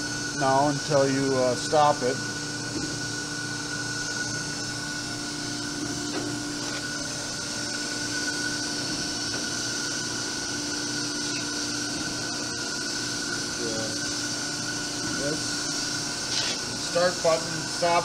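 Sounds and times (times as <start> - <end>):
surface grinder hum and whine: 0.0 - 18.0.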